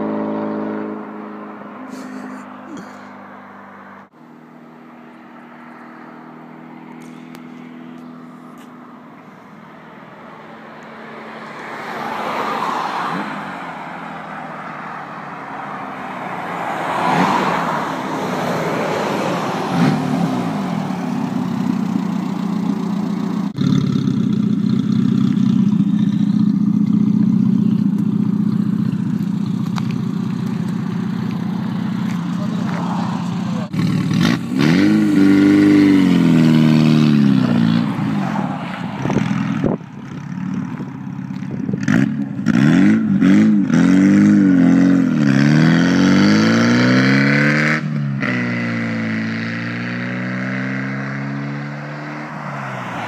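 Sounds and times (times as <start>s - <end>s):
unsilenced car engine: 0.0s - 53.0s.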